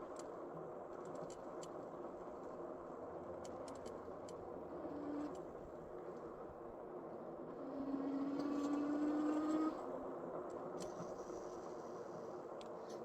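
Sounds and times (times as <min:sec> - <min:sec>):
faint constant hum: 0:00.0 - 0:13.0
road and traffic noise: 0:00.0 - 0:13.0.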